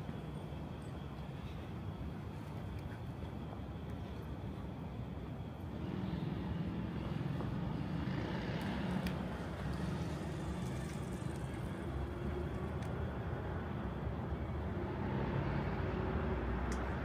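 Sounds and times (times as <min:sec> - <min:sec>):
vehicle engines: 0:00.0 - 0:17.0.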